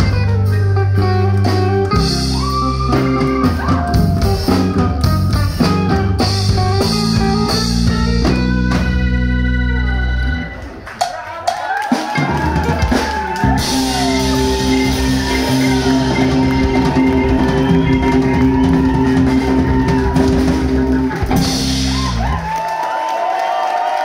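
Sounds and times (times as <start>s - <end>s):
live rock band playing: 0.0s - 22.8s.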